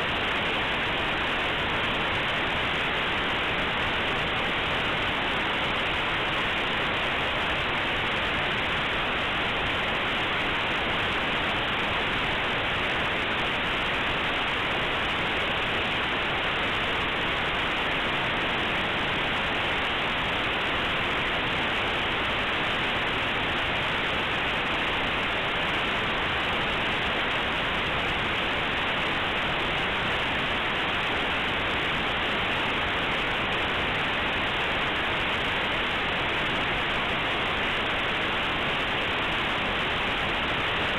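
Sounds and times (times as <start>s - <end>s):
steady static hiss: 0.0s - 40.9s.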